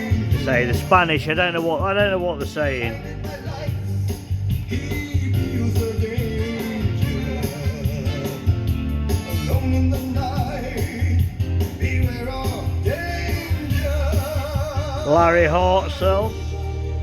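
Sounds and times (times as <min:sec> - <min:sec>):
rock and roll music with singing: 0:00.0 - 0:17.0.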